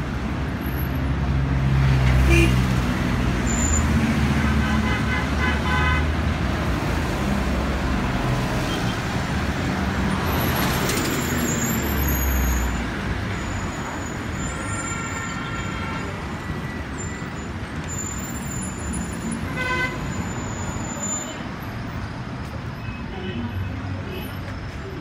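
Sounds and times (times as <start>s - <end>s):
traffic passing: 0.0s - 25.0s.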